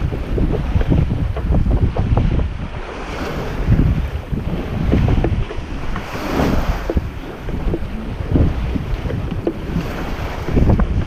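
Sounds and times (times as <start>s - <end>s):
water splashing past a hull: 0.0s - 11.0s
wind buffeting microphone: 0.0s - 11.0s.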